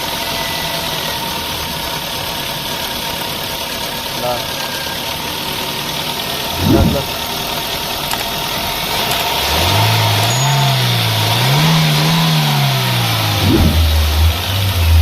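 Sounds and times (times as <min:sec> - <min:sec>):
car engine revving from idle: 0:00.0 - 0:15.0.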